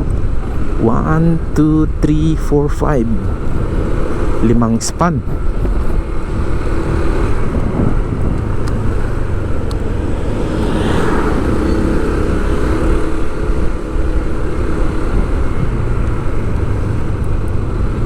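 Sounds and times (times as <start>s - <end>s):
traffic engine rumble: 0.0s - 18.0s.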